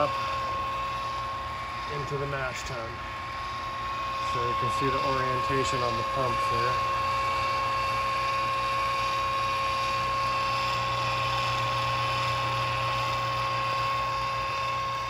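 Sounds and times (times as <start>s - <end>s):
electric pump motor humming: 0.0s - 15.0s.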